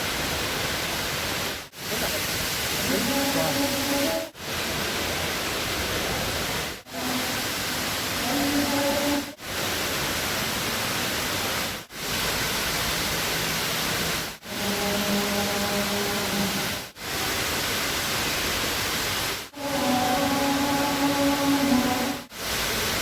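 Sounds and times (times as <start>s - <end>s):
waterfall pouring and splashing: 0.0s - 23.0s.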